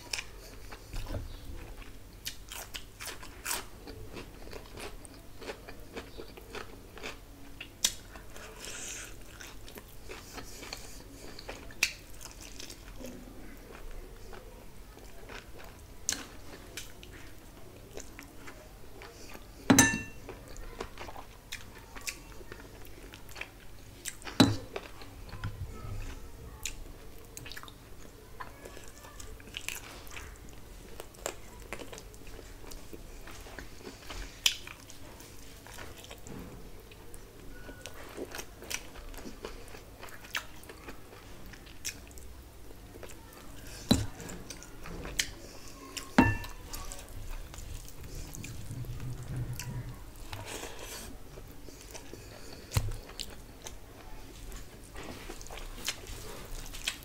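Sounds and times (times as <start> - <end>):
person chewing meat: 0.0 - 25.4, 26.0 - 36.3, 36.9 - 57.0.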